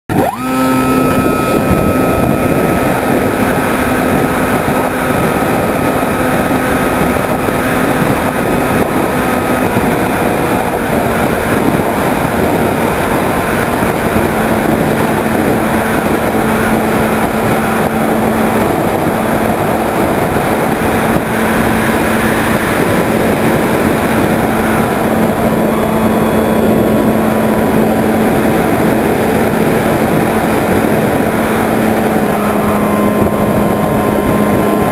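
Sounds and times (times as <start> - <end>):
electric motor and propeller drone: 0.1 - 34.9
wind rushing over microphone: 0.1 - 34.9.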